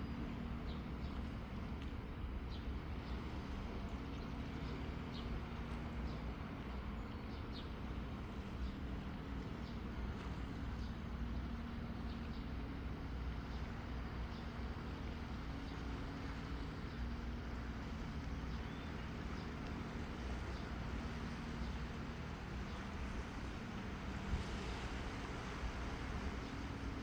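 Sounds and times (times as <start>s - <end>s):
low engine drone: 0.0s - 27.0s
wind: 0.0s - 27.0s.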